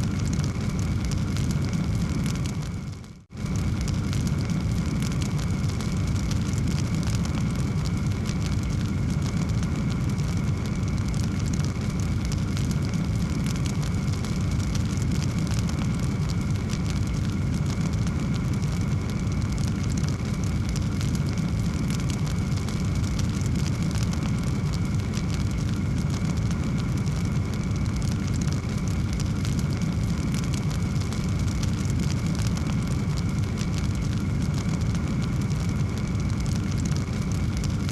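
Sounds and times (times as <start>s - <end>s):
low rumble of flames: 0.0s - 37.9s
wood fire crackling and popping: 0.0s - 37.9s.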